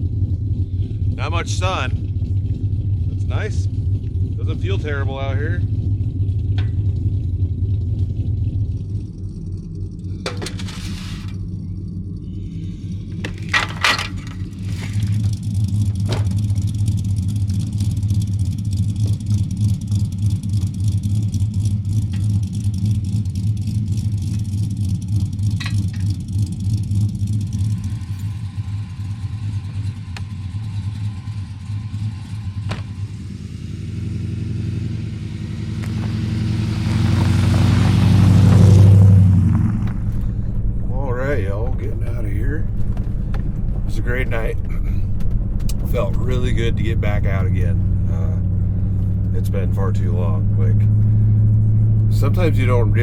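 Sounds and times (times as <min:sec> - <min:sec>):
pickup engine rumbling: 0:00.0 - 0:53.0.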